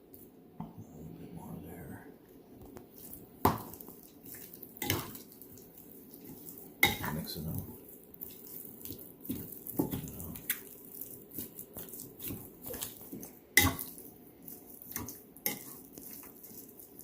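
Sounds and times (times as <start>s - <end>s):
soft wet squishing: 2.2s - 17.0s.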